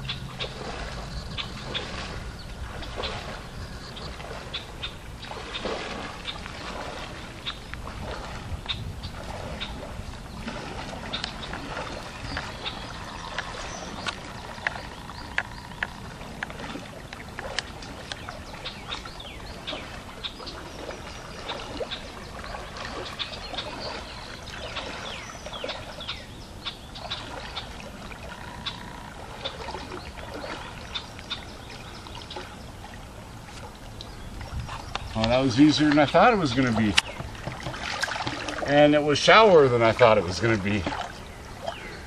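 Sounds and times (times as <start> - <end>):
river water sloshing around legs: 0.0 - 42.0
splashing footsteps in water: 0.0 - 42.0.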